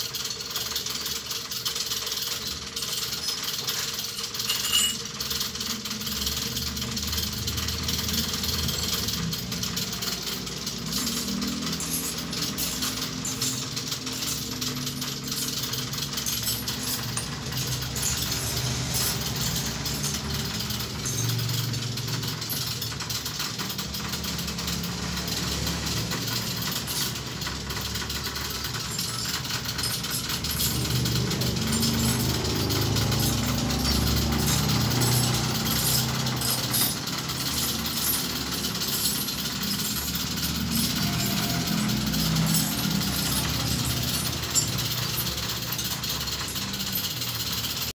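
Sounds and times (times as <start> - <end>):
rapid metallic rattle: 0.0 - 47.9
machinery humming: 2.2 - 47.9.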